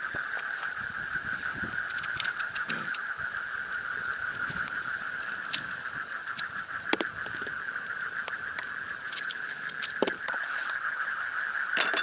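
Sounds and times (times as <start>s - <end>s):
steady high-pitched drone: 0.0s - 12.0s.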